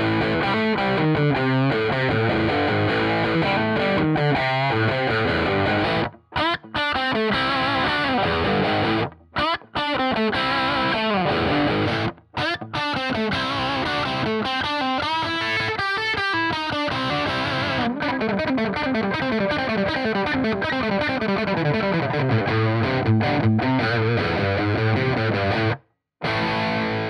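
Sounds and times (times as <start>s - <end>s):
distorted electric guitar: 0.0s - 27.0s.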